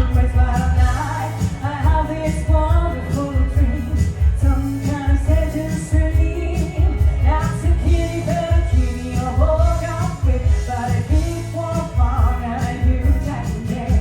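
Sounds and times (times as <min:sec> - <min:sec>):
person singing: 0:00.0 - 0:14.0
pulsing bass beat: 0:00.0 - 0:14.0.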